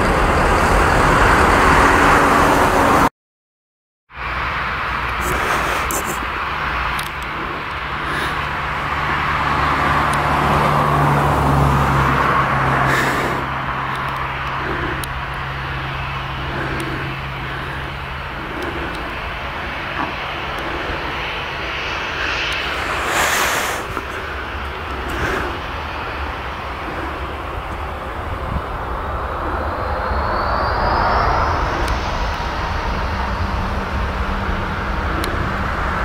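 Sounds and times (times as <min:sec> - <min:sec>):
jet engines at takeoff power: 0:00.0 - 0:03.1, 0:04.2 - 0:36.0.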